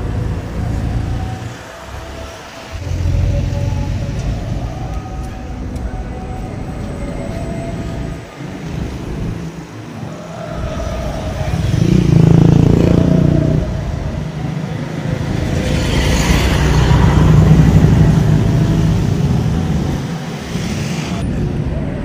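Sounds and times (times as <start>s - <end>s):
vehicle engines passing: 0.0s - 22.0s.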